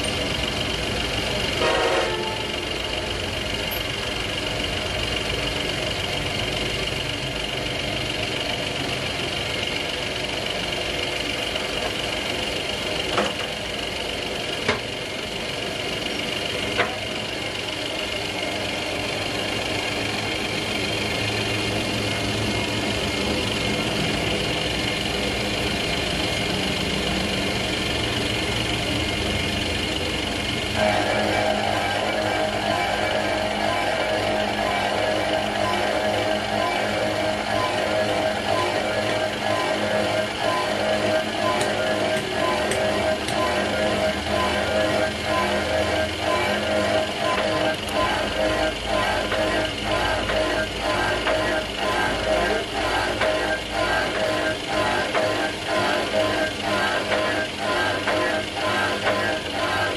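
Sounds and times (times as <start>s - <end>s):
lathe whine and hum: 0.0s - 59.9s.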